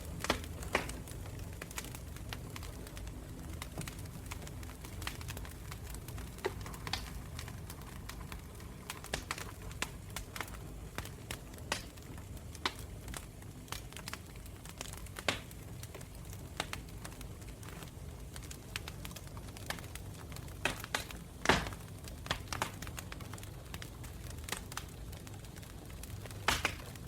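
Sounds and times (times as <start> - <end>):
campfire crackling and popping: 0.0 - 27.0
low rumble of flames: 0.0 - 27.0.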